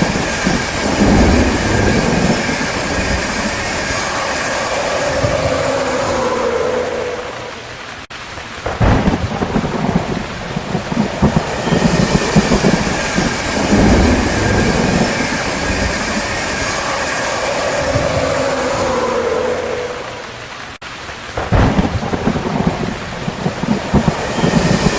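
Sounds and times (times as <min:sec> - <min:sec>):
steady rain: 0:00.0 - 0:24.9
thunder rumbling: 0:00.0 - 0:24.9.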